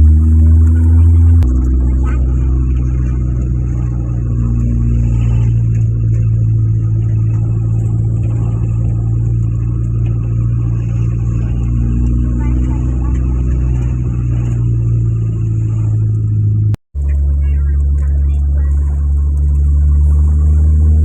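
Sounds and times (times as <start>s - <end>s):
vehicle engine droning: 0.0s - 21.0s.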